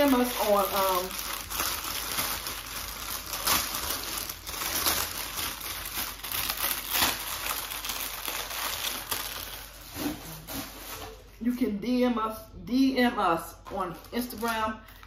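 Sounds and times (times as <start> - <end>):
plastic bag crinkling: 0.0 - 11.3, 13.6 - 15.0.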